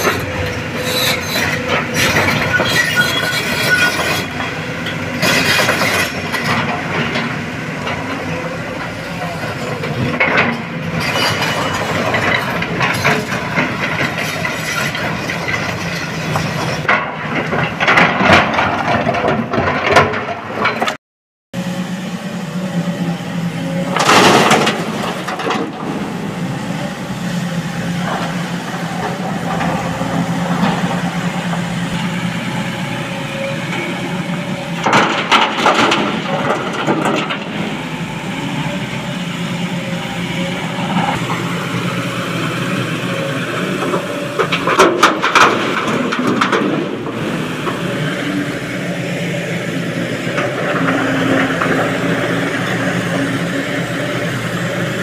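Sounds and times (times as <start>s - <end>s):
diesel excavator engine running: 0.0s - 21.0s, 21.6s - 55.0s.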